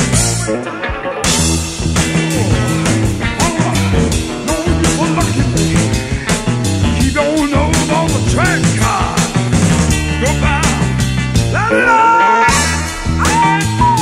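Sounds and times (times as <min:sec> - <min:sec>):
drums steady beat: 0:00.0 - 0:00.5, 0:01.3 - 0:11.7, 0:12.5 - 0:14.0
bass guitar: 0:00.0 - 0:14.0
bending wavering lead guitar: 0:00.0 - 0:14.0
rock band instrumental: 0:00.0 - 0:14.0.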